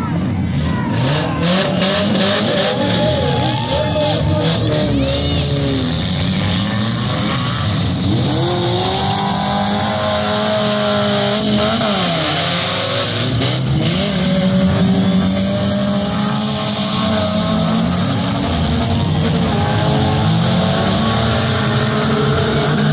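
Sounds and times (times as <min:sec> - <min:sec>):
car engines revving: 0:00.0 - 0:22.9.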